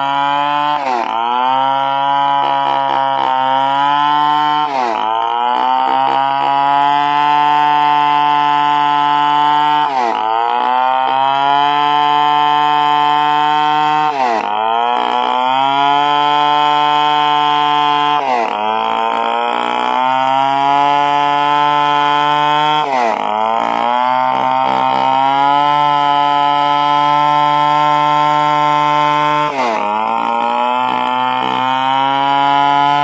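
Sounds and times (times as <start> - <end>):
chainsaw sawing timber: 0.0 - 33.0.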